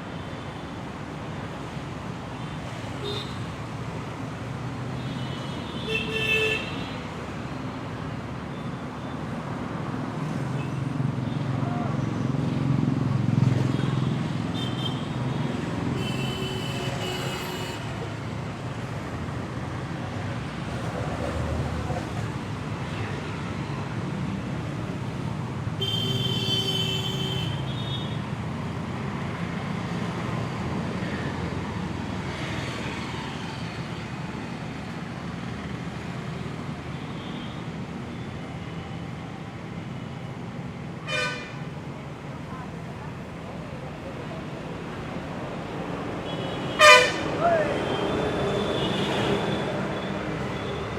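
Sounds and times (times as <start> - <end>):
street traffic noise: 0.0 - 50.9.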